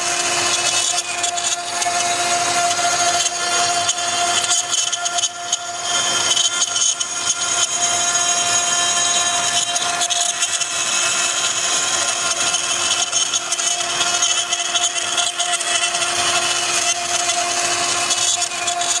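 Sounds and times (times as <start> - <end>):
router bit cutting wood: 0.0 - 19.0
router spindle whine: 0.0 - 19.0.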